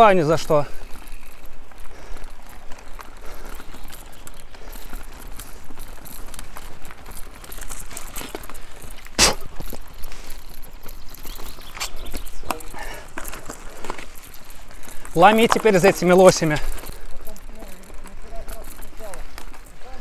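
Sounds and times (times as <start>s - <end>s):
bike rattles and clicks: 0.0s - 20.0s
bike tyre noise: 0.0s - 20.0s.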